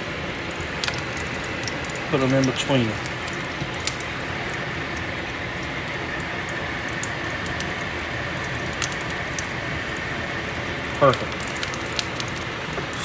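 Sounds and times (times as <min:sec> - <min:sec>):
kitchen exhaust fan rushing: 0:00.0 - 0:13.0
sandwich sizzling in a skillet: 0:00.3 - 0:13.0.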